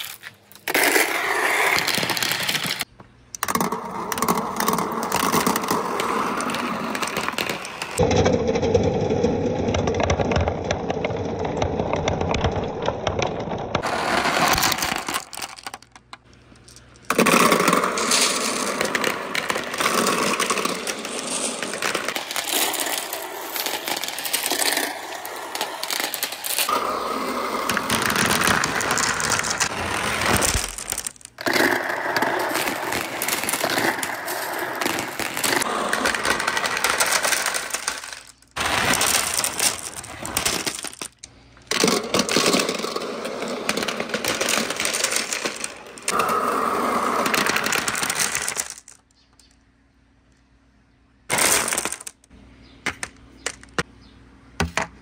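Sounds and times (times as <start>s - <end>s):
glass marbles rolling and clattering: 0.0s - 49.6s, 51.3s - 52.3s.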